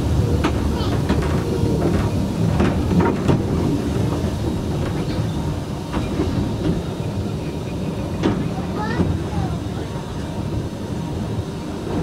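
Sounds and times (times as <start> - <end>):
wheels clacking over rail joints: 0.0 - 10.4
train wheels rumbling: 0.0 - 12.0.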